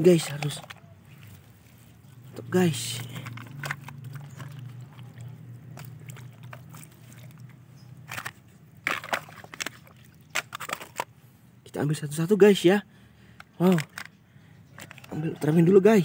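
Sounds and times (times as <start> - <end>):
twigs and leaves crackling: 0.0 - 11.2, 13.3 - 15.8.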